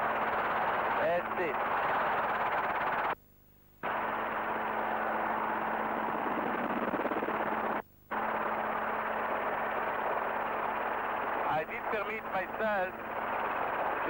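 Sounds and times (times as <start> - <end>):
helicopter engine and rotor noise: 0.0 - 3.2, 3.8 - 14.0.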